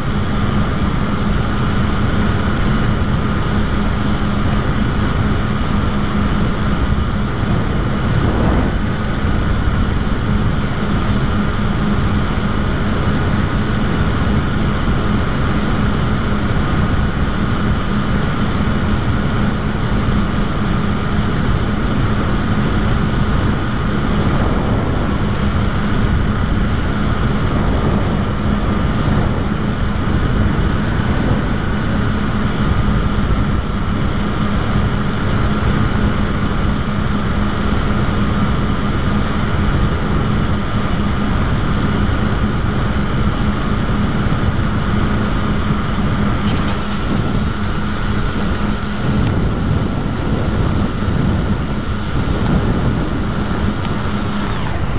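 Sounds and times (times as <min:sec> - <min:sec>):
model plane motor and propeller: 0:00.0 - 0:54.9
thin high whine: 0:00.0 - 0:54.9
wind rushing over microphone: 0:00.0 - 0:54.9.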